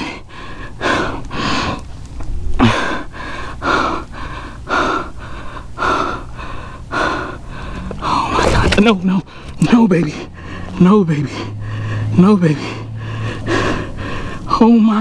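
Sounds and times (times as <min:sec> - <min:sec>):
man breathing hard: 0:00.0 - 0:08.4, 0:10.2 - 0:14.6.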